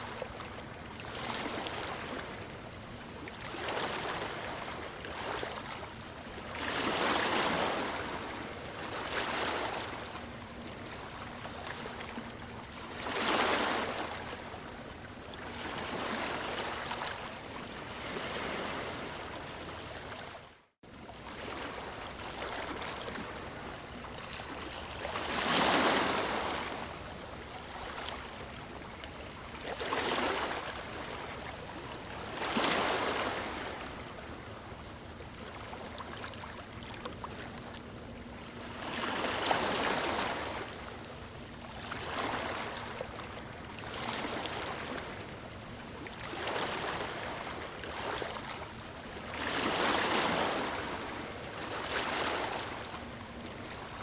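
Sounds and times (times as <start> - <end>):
ocean waves breaking: 1.0 - 54.0.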